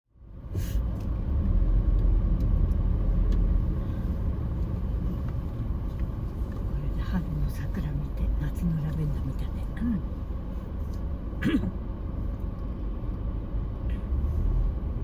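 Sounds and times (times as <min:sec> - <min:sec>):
engine and tyre rumble: 0:00.1 - 0:15.0.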